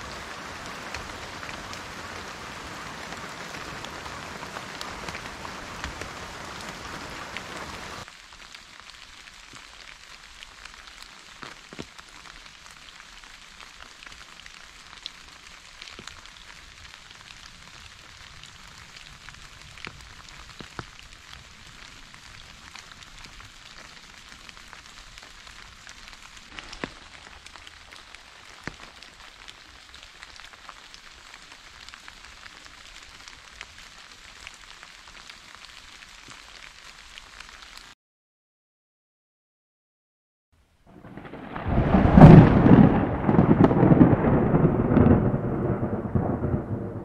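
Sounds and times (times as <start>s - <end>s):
sharp raindrops hitting nearby: 0.0s - 38.0s, 40.9s - 47.0s
steady rain falling: 0.0s - 38.0s, 40.6s - 47.0s.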